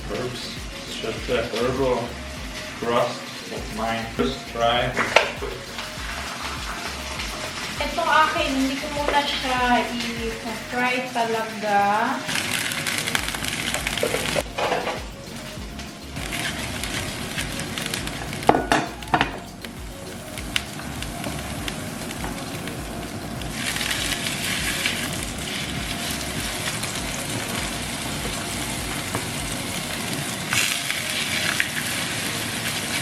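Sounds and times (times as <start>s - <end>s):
background music: 0.0s - 33.0s
food sizzling in a frying pan: 0.0s - 33.0s.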